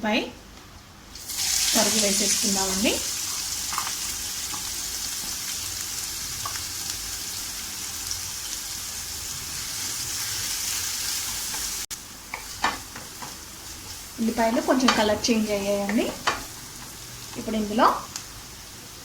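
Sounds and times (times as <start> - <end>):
onion sizzling in hot oil: 1.1 - 19.0.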